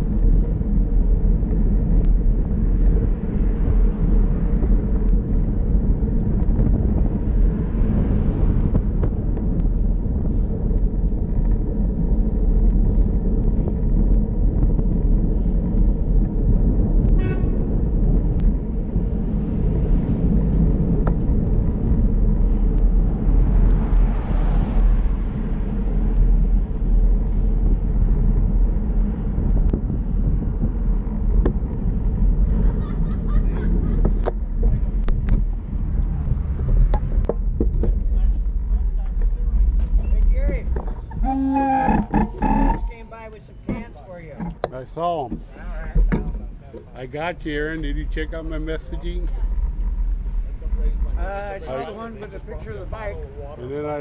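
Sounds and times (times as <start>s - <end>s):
wind buffeting microphone: 0.0s - 46.6s
road noise: 0.0s - 54.0s
traffic passing: 0.0s - 54.0s.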